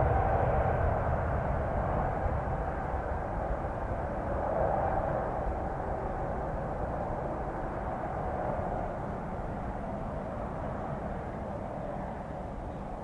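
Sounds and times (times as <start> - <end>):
distant jet engines roaring: 0.0 - 13.0.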